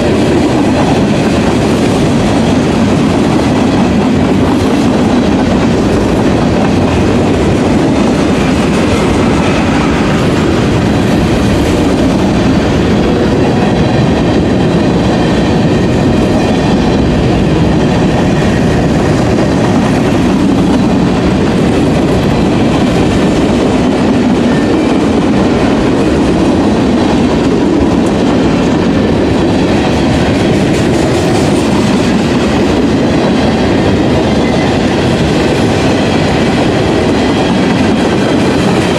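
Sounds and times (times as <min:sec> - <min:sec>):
freight train cars rolling past: 0:00.0 - 0:38.9
wheels clacking on rails: 0:00.0 - 0:38.9.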